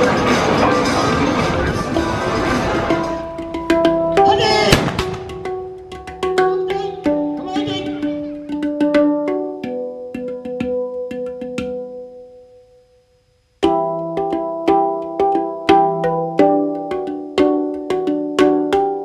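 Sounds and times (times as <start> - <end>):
handpan melody: 0.0 - 12.7, 13.6 - 19.0.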